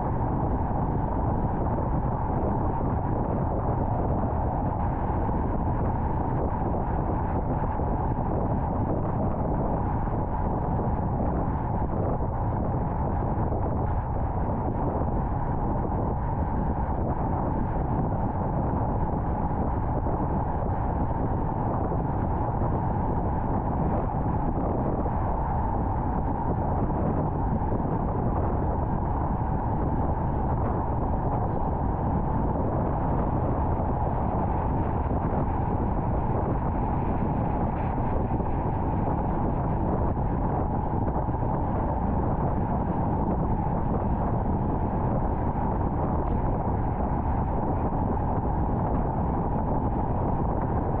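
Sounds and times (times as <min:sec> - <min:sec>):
car road noise at highway speed: 0:00.0 - 0:51.0.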